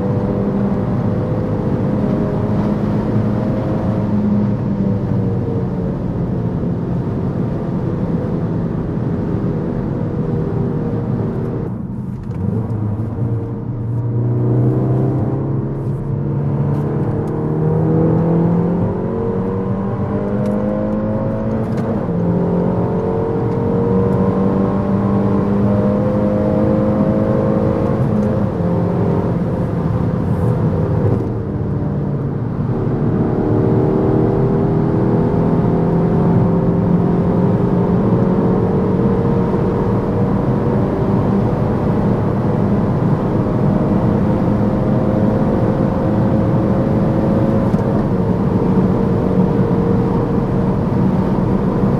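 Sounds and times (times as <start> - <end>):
car engine pulling hard: 0.0 - 51.9
wind and road noise: 0.0 - 51.9.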